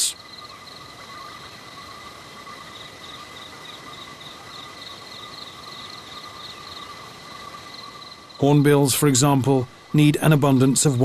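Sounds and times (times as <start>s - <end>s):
forest insects chirring: 0.0s - 11.0s
pulsing insect chirp: 0.0s - 11.0s.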